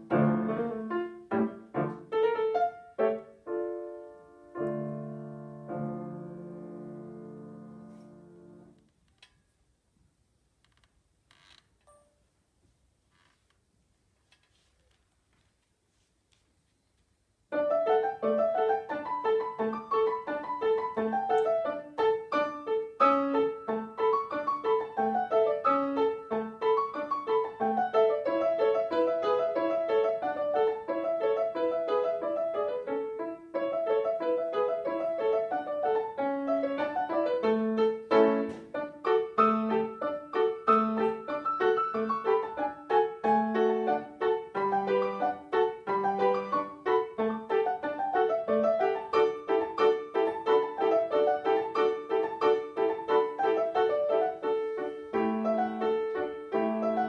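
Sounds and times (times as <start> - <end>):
solo grand piano: 0.0 - 8.9, 15.3 - 57.0.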